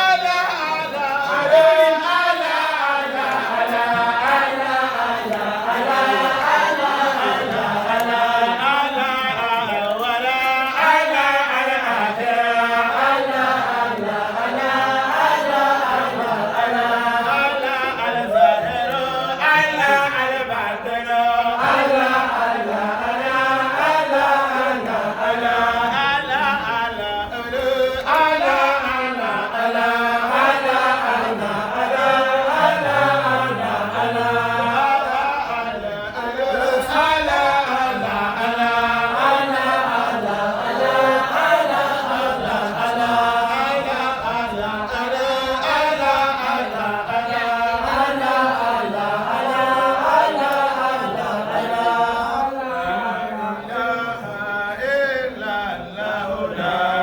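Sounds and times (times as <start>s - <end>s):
many voices chanting: 0.0s - 57.0s.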